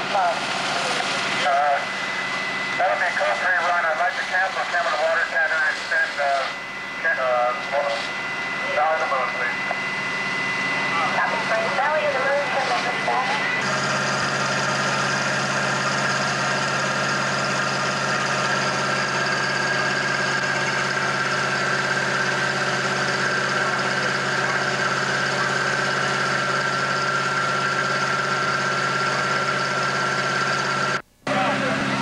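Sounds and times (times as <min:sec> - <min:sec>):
fire engine running: 0:00.0 - 0:32.0
pump whine: 0:00.0 - 0:32.0.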